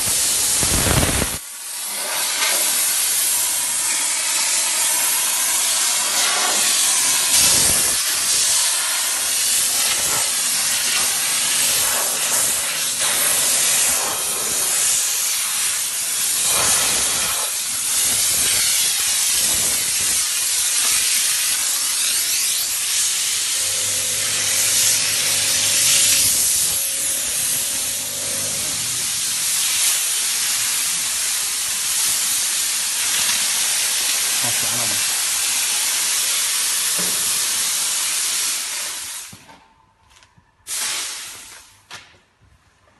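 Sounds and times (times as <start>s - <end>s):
steam jet hissing: 0.0s - 39.4s, 40.7s - 41.8s.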